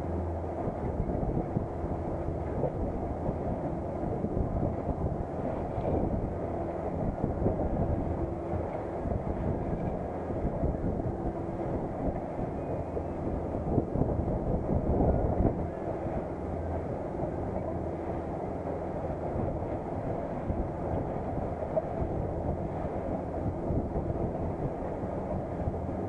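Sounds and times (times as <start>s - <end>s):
boat engine droning: 0.0s - 26.0s
rushing wind: 0.0s - 26.0s
water noise: 0.0s - 26.0s.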